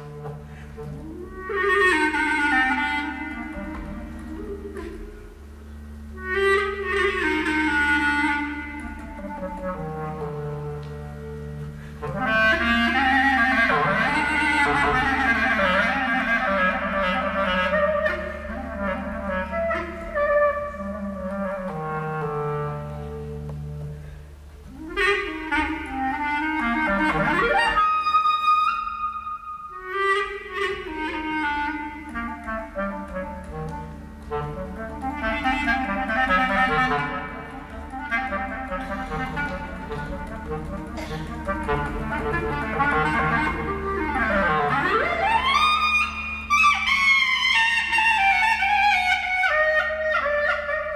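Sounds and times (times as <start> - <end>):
bowed double bass: 0.0 - 50.9
clarinet melody: 0.0 - 50.9.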